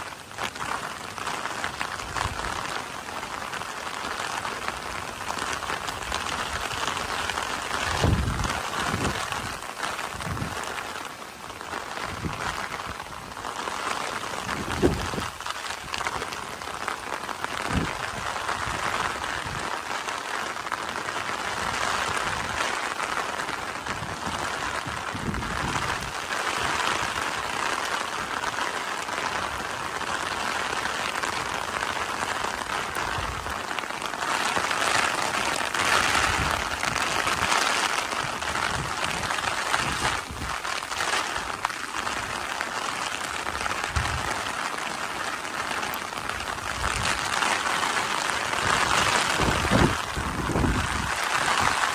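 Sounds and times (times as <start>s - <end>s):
rain patter: 0.0s - 51.9s.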